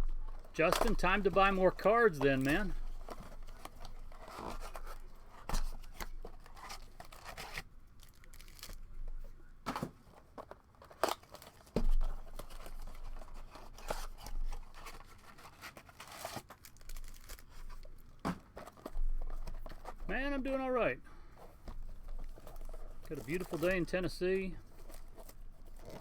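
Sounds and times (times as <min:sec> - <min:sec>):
cards being handled: 0:00.1 - 0:26.0
foil packs tearing and crinkling: 0:00.4 - 0:09.0, 0:09.8 - 0:19.9, 0:21.8 - 0:26.0.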